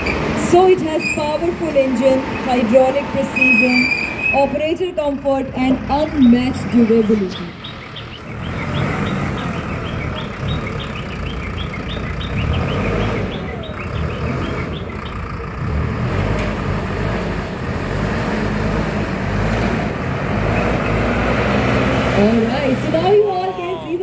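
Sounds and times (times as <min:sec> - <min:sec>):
diesel engine running hard: 0:00.0 - 0:24.0.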